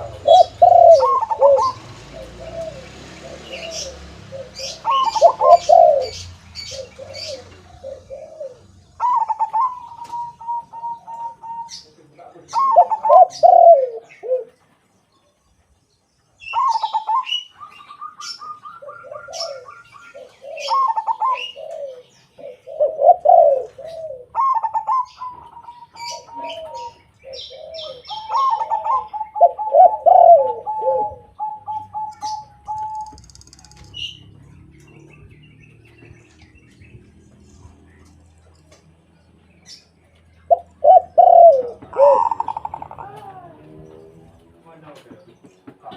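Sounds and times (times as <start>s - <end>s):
stuttering bird trills: 0.0s - 14.5s, 16.4s - 38.2s, 40.5s - 44.2s
doves cooing: 0.0s - 14.9s, 16.4s - 45.9s.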